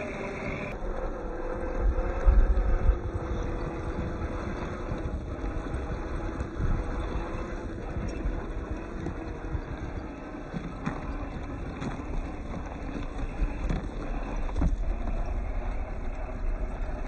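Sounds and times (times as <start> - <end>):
toy crawler motor rumble: 0.0 - 17.0
wheels knocking on terrain: 2.0 - 17.0.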